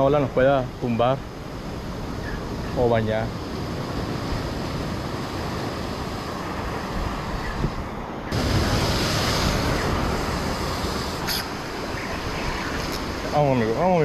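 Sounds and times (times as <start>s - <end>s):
surf breaking over rocks: 0.0s - 14.0s
wind buffeting microphone: 0.0s - 14.0s.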